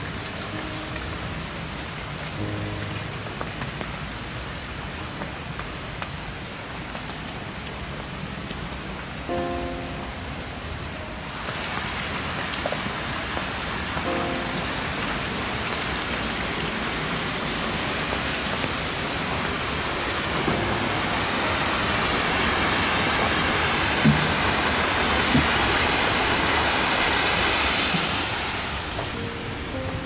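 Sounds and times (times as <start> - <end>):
flowing river water: 0.0 - 30.0.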